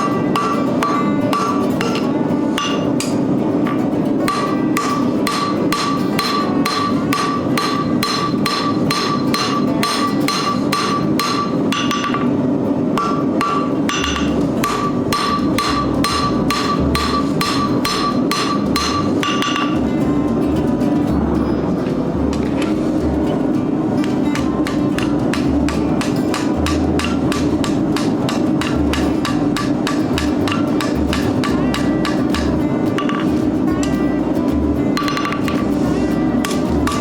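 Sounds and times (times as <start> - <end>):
hammer striking steel on anvil: 0.0 - 3.2, 4.3 - 12.4, 13.0 - 19.9, 24.0 - 34.0, 35.0 - 37.0
steady rushing noise: 0.0 - 37.0.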